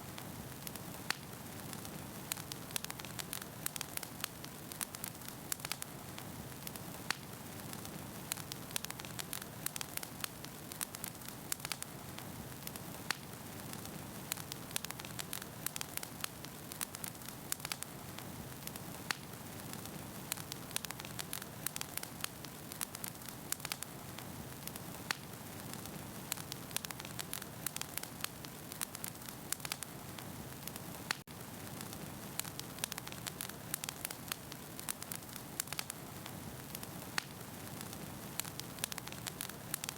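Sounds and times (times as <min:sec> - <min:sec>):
wood fire crackling in fireplace: 0:00.0 - 0:39.9.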